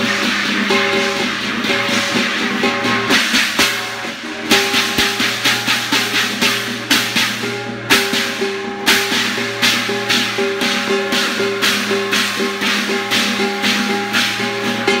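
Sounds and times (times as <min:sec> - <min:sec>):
cymbals crashing: 0:00.0 - 0:15.0
drum beat: 0:00.0 - 0:15.0.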